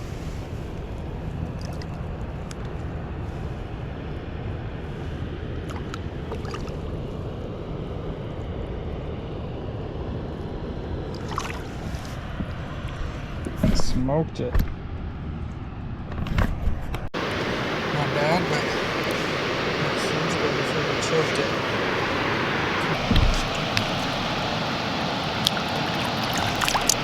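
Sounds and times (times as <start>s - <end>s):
wind and water rumble: 0.0s - 27.0s.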